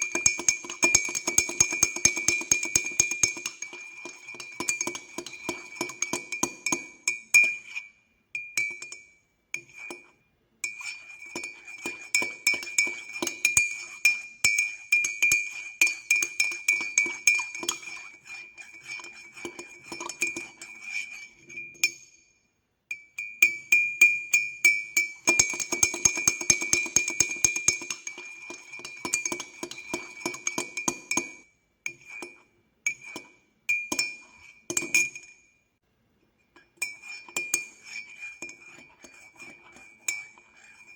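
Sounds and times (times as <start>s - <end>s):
teaspoon clinking in cup: 0.0s - 22.2s, 22.9s - 35.6s, 36.5s - 40.9s.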